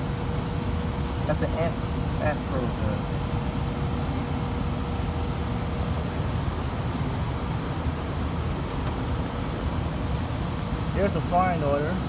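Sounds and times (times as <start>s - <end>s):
engine idling with misfire: 0.0s - 12.0s.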